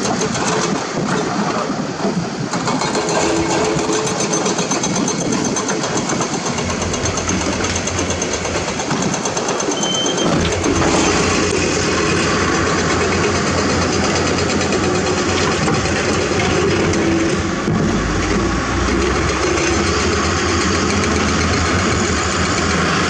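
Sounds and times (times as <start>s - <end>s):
excavator engine and hydraulics: 0.0s - 23.0s
rock scraping and rattling: 2.5s - 21.8s.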